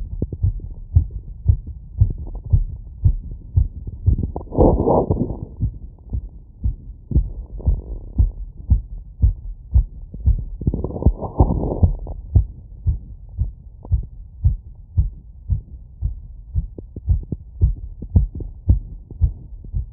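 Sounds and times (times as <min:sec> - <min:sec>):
fast heartbeat thumps: 0:00.0 - 0:19.9.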